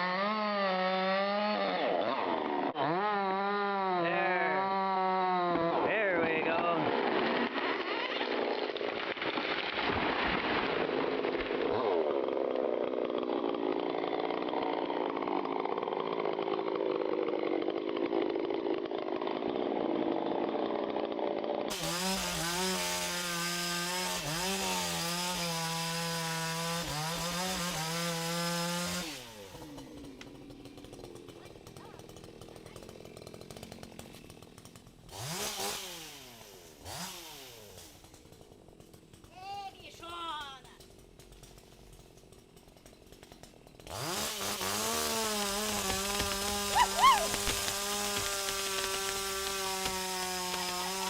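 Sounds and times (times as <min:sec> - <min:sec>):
chainsaw cutting wood: 0:00.0 - 0:51.0.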